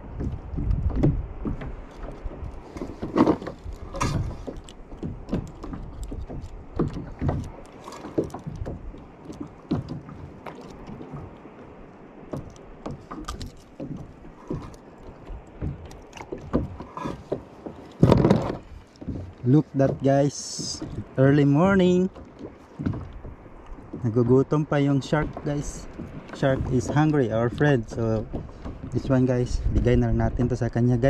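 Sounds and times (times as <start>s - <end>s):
small knocks on hull: 0.0s - 31.0s
water lapping against hull: 0.0s - 31.0s.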